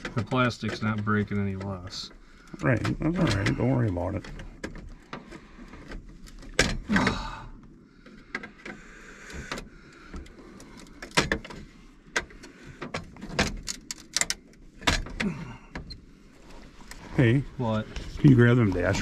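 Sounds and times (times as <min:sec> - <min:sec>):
hands clicking and knocking parts: 0:00.0 - 0:16.0.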